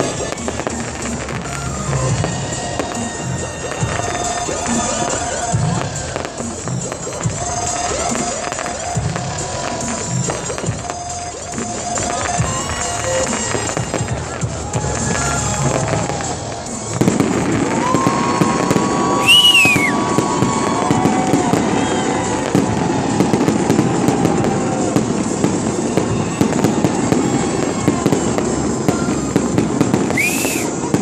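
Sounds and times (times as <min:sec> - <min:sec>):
firework whistle: 0:00.0 - 0:31.0
fireworks bangs and crackling: 0:00.0 - 0:31.0.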